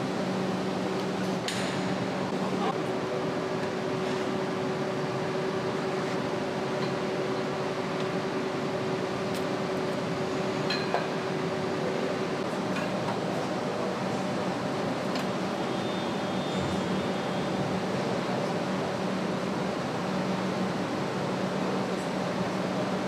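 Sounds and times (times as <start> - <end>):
machinery hum: 0.0 - 23.0.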